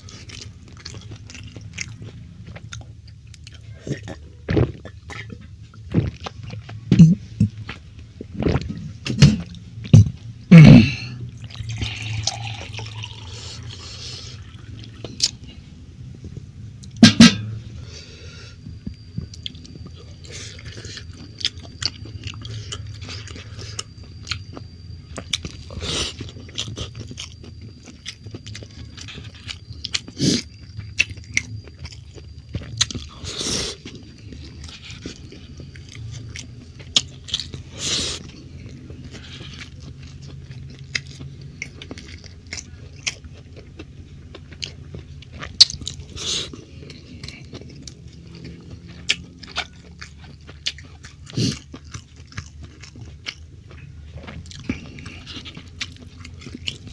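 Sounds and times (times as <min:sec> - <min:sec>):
chewing and mouth smacking: 0:00.0 - 0:18.1, 0:18.7 - 0:56.9.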